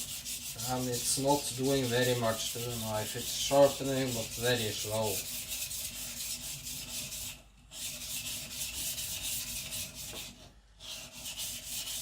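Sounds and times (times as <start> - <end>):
knife grinding on whetstone: 0.0 - 10.1.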